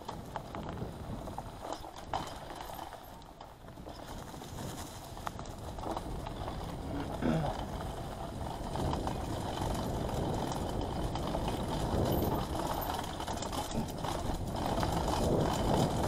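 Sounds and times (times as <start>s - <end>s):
bike rattling over bumps: 0.0s - 16.0s
tyres rolling over dirt and leaves: 0.0s - 16.0s.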